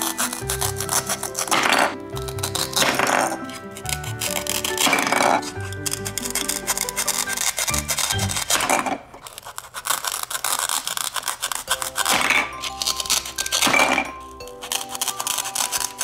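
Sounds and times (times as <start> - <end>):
background music: 0.0 - 9.0, 11.5 - 16.0
velcro ripping apart: 0.0 - 16.0.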